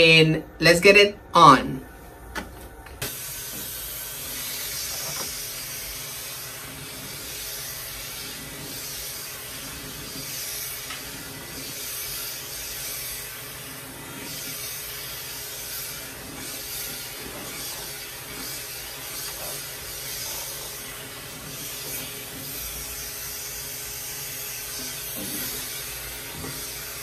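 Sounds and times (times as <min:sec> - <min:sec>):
vacuum suction hiss: 0:00.0 - 0:27.0.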